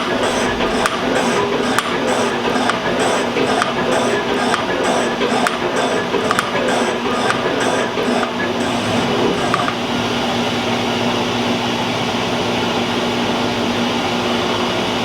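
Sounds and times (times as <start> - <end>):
metal-cutting machine humming: 0.0 - 15.0.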